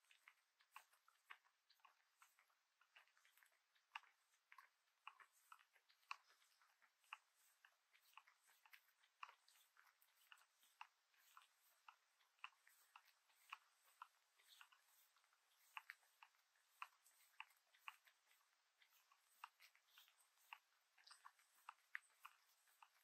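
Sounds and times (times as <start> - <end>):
faint irregular clicking: 0.0 - 23.0.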